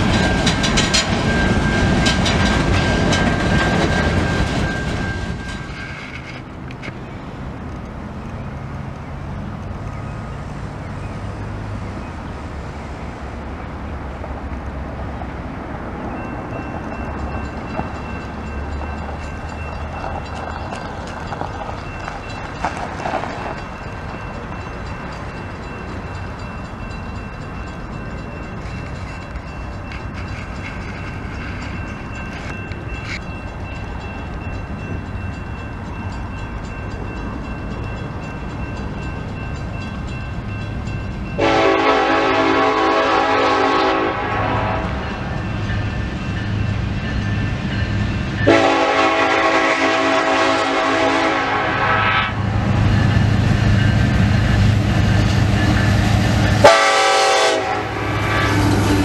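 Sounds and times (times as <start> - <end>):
diesel locomotive engine: 0.0 - 59.0
train rumble: 0.0 - 59.0.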